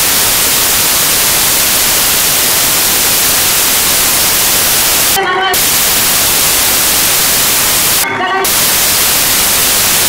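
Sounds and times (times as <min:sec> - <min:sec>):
static hiss: 0:00.0 - 0:10.0.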